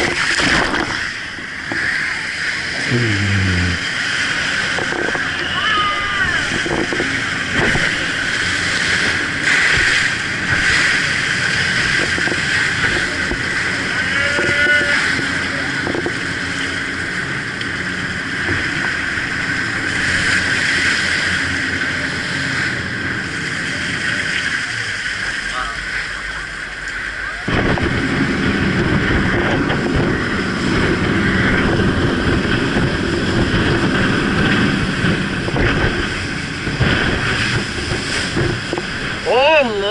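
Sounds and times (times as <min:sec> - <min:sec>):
jet boat engine: 0:00.0 - 0:39.9
water rushing: 0:00.0 - 0:39.9.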